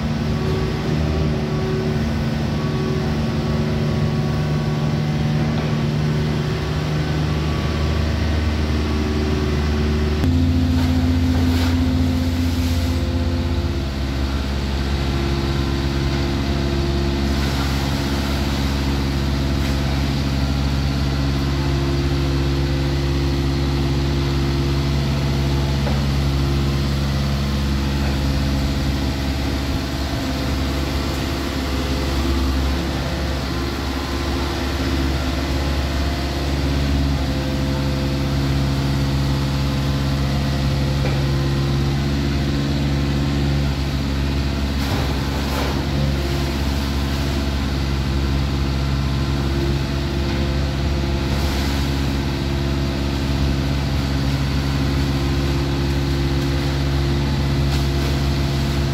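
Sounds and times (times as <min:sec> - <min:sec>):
excavator bucket digging sediment: 0:00.0 - 0:58.9
excavator diesel engine running: 0:00.0 - 0:58.9.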